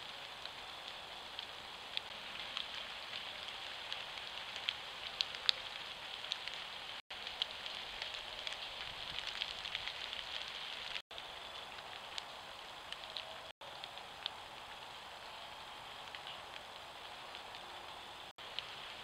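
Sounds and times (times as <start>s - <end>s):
animal walking over dry leaves: 0.0s - 19.0s.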